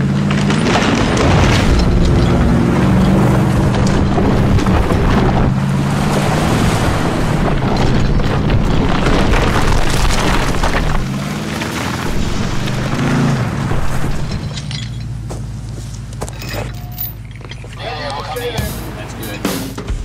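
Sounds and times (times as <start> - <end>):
gravel and dirt scraping: 0.0 - 19.6
truck engine pulling under load: 0.0 - 19.8.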